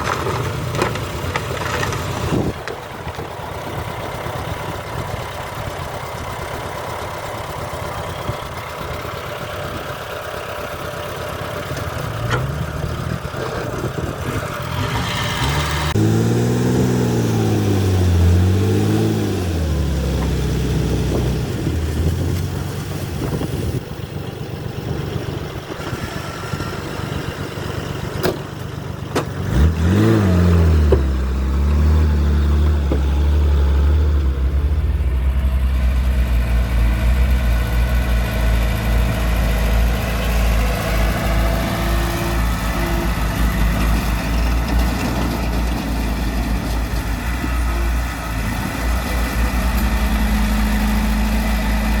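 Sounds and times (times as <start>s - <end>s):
diesel engine of earthmoving machine: 0.0s - 52.0s.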